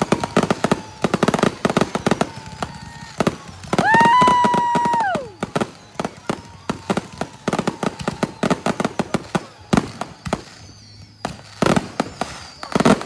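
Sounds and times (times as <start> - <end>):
fireworks crackling pops: 0.0 - 13.0
whistling firework: 0.0 - 13.0.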